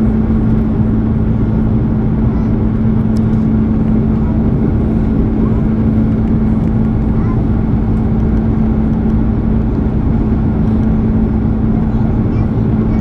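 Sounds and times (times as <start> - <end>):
aircraft cabin engine and air noise: 0.0 - 13.0.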